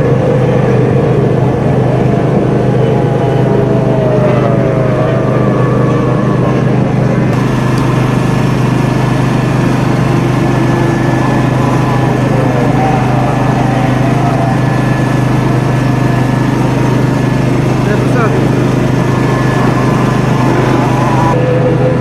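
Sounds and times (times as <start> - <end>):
motorboat engine drone: 0.0 - 22.0.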